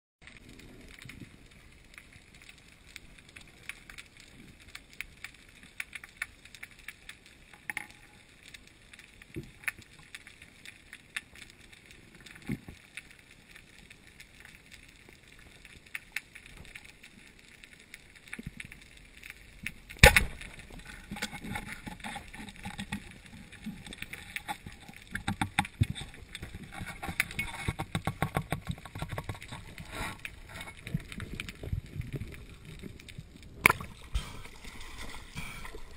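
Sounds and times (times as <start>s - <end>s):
underwater clicks and crackles: 0.2s - 35.9s.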